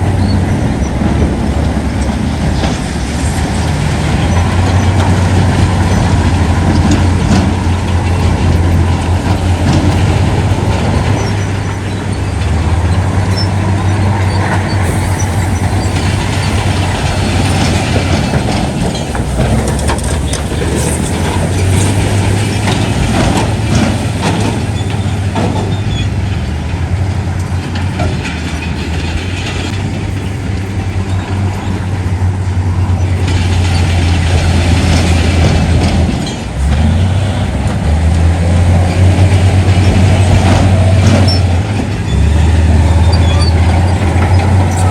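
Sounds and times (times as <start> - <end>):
heavy diesel machinery engine hum: 0.0 - 44.9.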